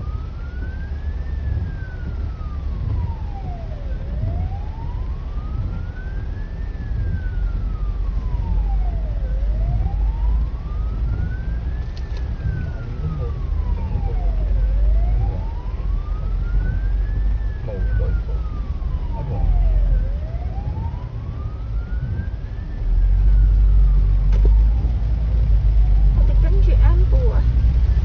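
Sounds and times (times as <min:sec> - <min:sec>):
ambulance siren wailing: 0:00.0 - 0:28.0
car engine and road rumble: 0:00.0 - 0:28.0.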